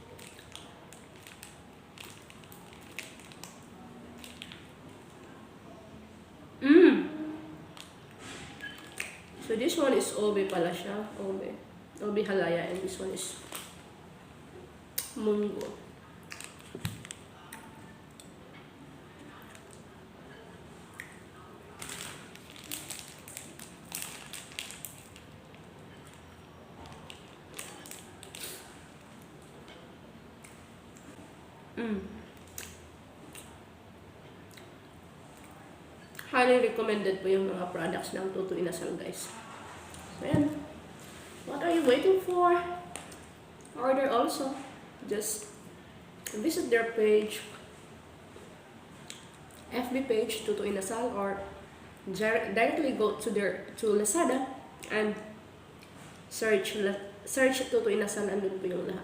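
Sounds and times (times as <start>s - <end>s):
faint steady background noise: 0.0s - 59.0s.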